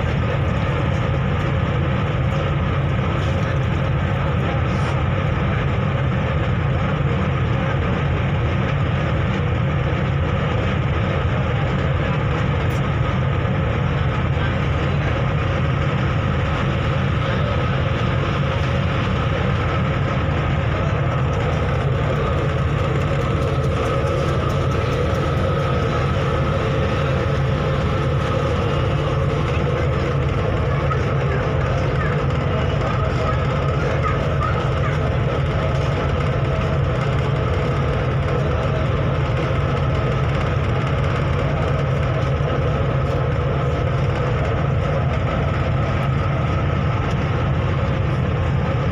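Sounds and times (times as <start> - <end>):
ferry engines droning: 0.0 - 48.9.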